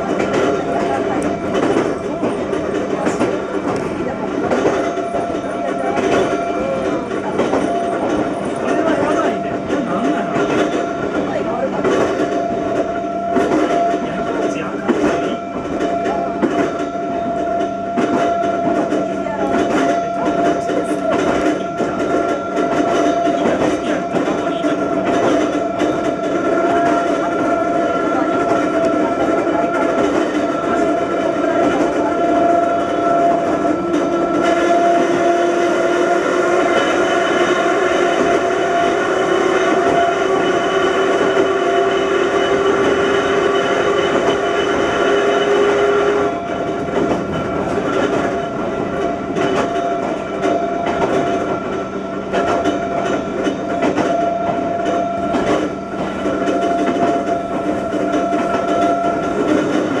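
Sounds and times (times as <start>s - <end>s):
electric train motors whining: 0.0s - 60.0s
train wheels clacking over rail joints: 0.0s - 60.0s.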